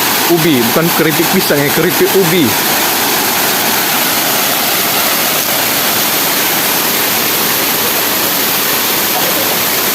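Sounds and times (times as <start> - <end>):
waterfall roaring: 0.0 - 9.9.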